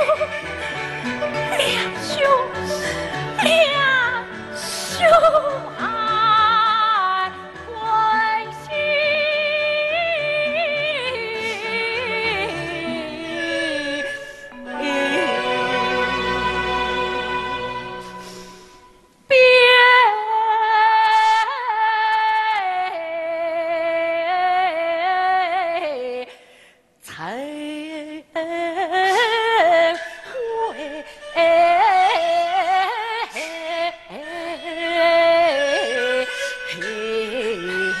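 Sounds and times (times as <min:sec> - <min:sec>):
opera music with sliding notes: 0:00.0 - 0:26.4, 0:27.0 - 0:38.0.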